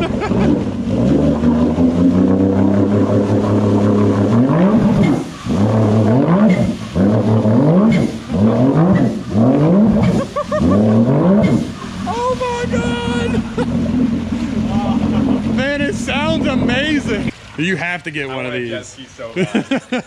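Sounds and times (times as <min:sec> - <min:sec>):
jet ski engine revving: 0:00.0 - 0:20.0.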